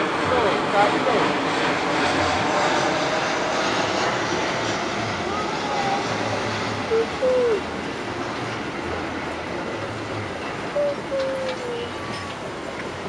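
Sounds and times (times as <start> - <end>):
railway wheels rumbling on rail: 0.0 - 13.0.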